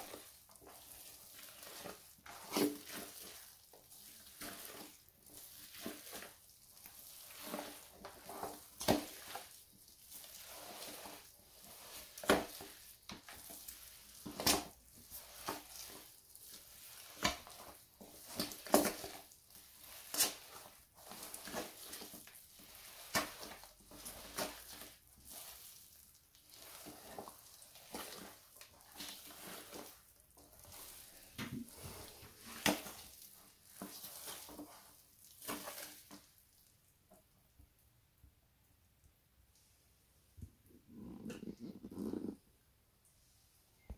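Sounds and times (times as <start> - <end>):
feet squelching in wet cake: 0.0 - 36.2.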